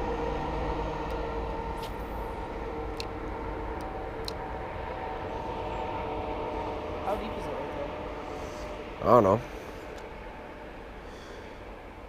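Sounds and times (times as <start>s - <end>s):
boat motor running: 0.0s - 11.3s.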